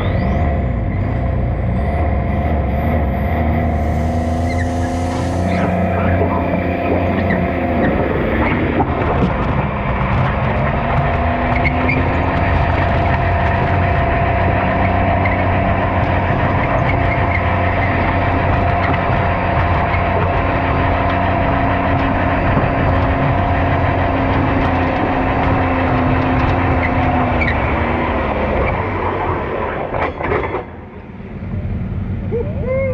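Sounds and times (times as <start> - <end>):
tractor engine under load: 0.0 - 32.3
steady whine: 0.0 - 32.4.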